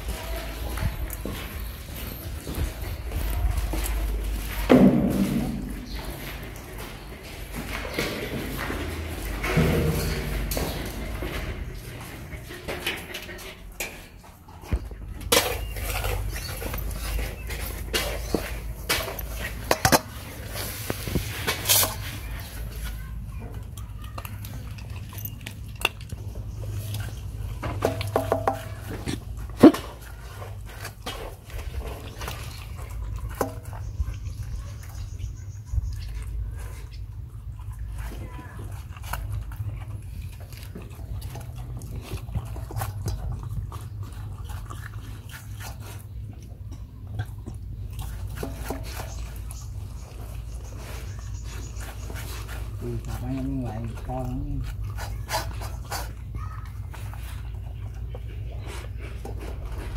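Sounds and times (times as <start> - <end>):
dog eating from metal bowl: 0.0 - 59.9.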